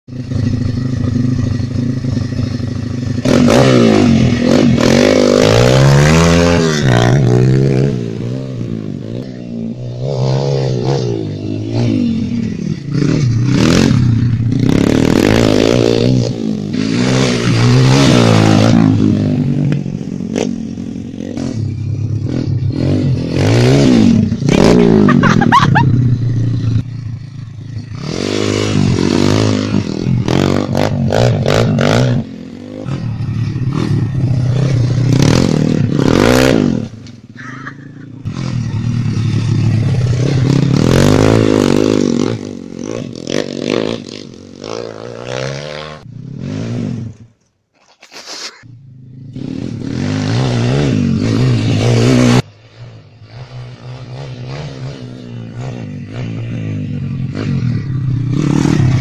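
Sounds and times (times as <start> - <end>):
motorcycle engine revving: 0.1 - 47.4, 48.6 - 59.0.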